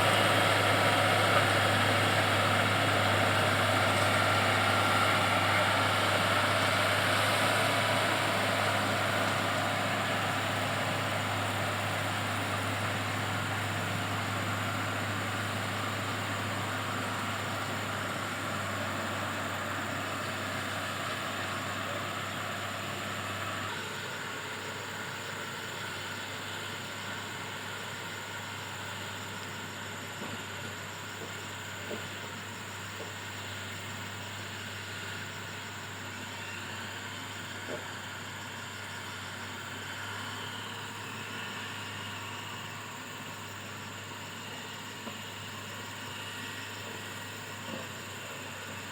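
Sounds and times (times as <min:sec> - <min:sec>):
grader diesel engine running: 0:00.0 - 0:48.9.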